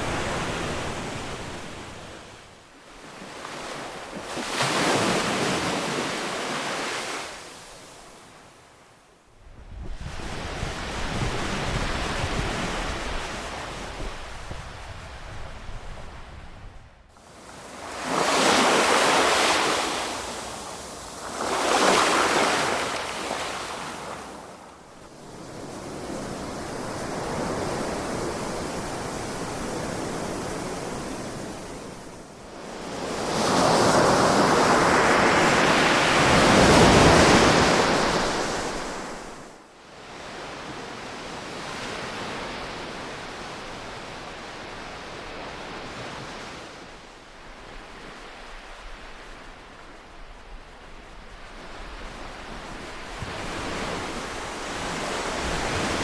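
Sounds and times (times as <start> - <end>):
ocean waves breaking on shore: 0.0 - 8.8, 9.9 - 56.0.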